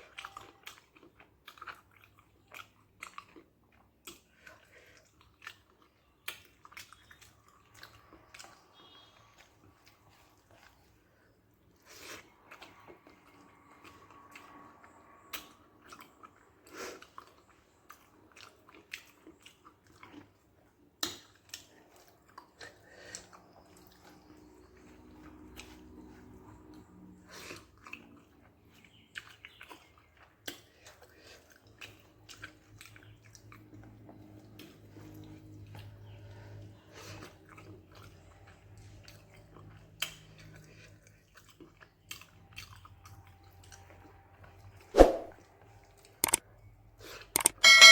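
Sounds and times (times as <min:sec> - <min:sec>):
person chewing soft food: 0:00.0 - 0:46.4.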